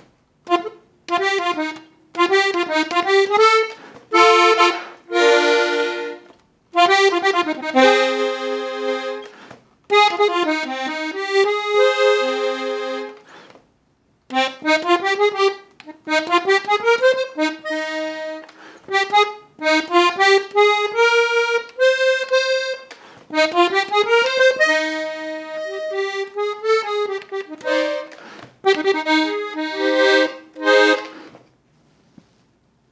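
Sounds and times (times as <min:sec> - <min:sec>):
accordion melody: 0:00.0 - 0:13.4, 0:14.3 - 0:31.4.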